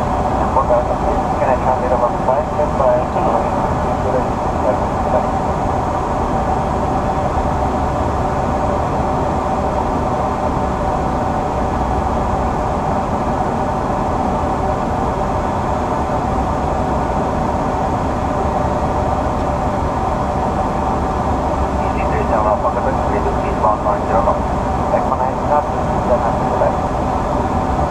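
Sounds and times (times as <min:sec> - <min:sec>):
jet engines humming: 0:00.0 - 0:27.9.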